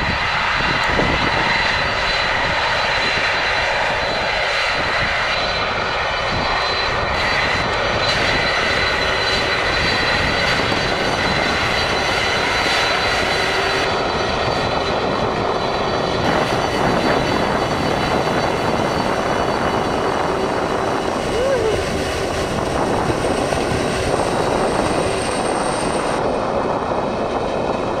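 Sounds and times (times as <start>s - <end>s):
high steady engine whine: 0.0s - 28.0s
jet engines roaring: 0.0s - 28.0s.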